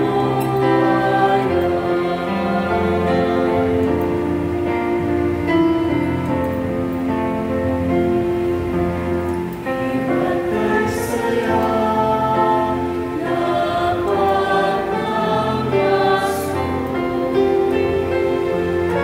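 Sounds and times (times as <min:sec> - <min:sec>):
choir singing a hymn: 0:00.0 - 0:07.0, 0:07.8 - 0:19.0.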